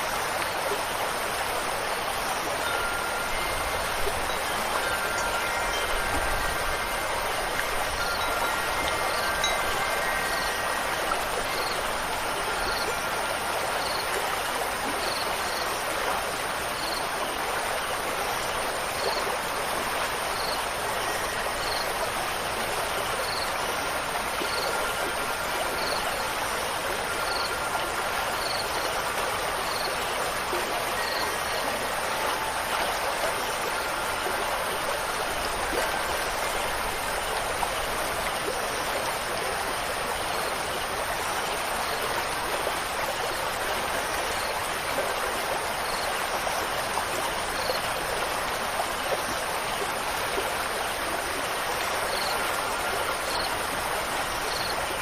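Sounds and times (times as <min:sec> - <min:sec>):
flowing stream rushing: 0:00.0 - 0:55.0.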